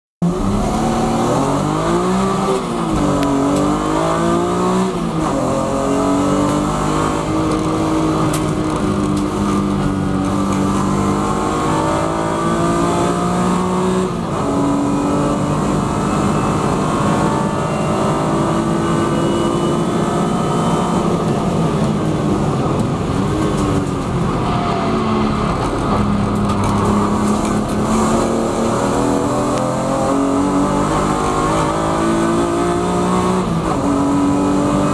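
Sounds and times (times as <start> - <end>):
racing car engine: 0.2 - 34.9.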